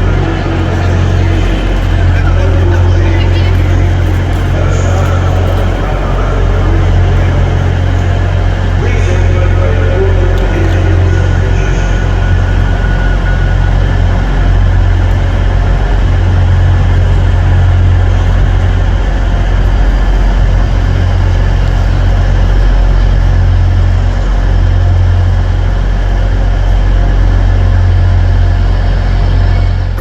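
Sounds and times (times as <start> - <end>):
electric locomotive humming: 0.0 - 30.0.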